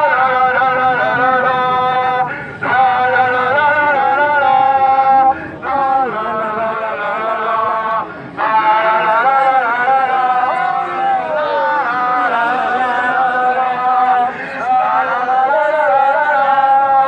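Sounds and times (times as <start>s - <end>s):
man singing slow melody: 0.0s - 17.0s.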